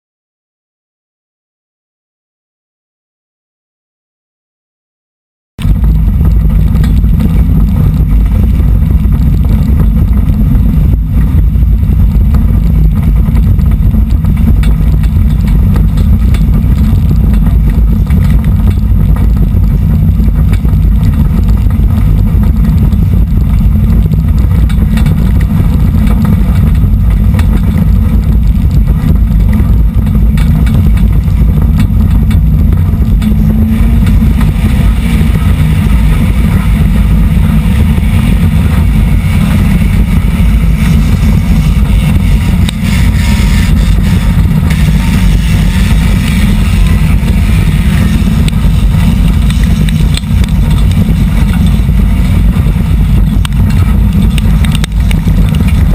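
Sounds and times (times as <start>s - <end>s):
race car engine drone: 5.6s - 55.9s.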